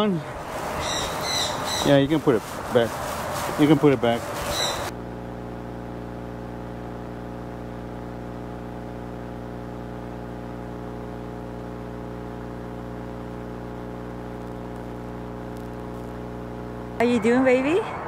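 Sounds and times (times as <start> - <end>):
electrical buzzing hum: 0.0 - 18.0.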